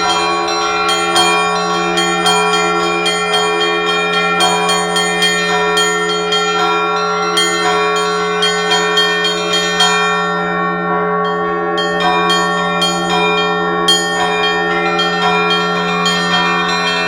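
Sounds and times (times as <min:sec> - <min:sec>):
low bell ringing: 0:00.0 - 0:17.0
small church bells pealing: 0:00.0 - 0:17.0.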